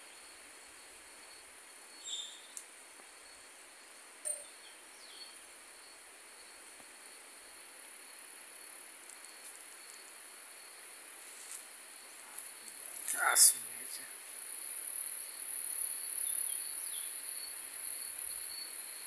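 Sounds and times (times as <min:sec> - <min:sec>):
insect chirp: 0:00.0 - 0:19.0
insects buzzing: 0:00.0 - 0:19.0.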